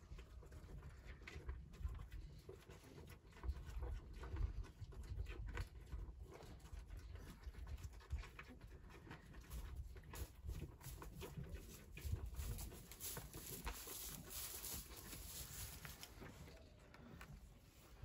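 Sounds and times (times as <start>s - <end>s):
animal crunching chews: 0.0s - 17.9s.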